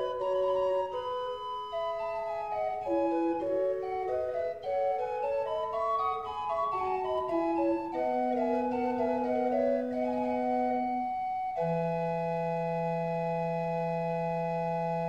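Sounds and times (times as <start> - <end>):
pipe organ playing: 0.0 - 15.0.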